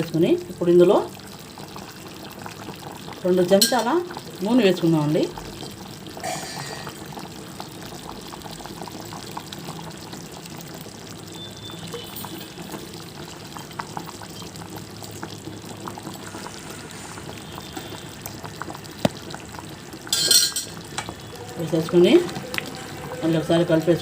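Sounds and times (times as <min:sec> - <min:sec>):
curry simmering and bubbling: 0:00.0 - 0:24.0.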